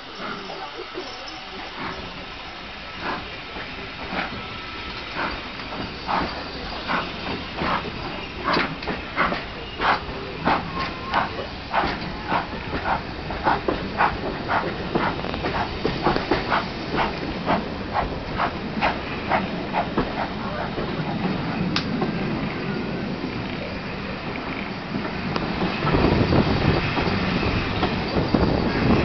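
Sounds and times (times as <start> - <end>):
carriages rumbling: 0.0 - 29.0
steam locomotive exhaust beats: 0.0 - 29.0
train wheels clattering on rails: 0.0 - 29.0.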